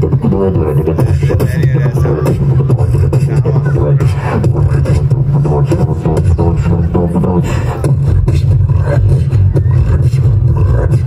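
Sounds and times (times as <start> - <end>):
beatboxing drum hits: 0.0 - 11.0
vocal bass line: 0.0 - 11.0.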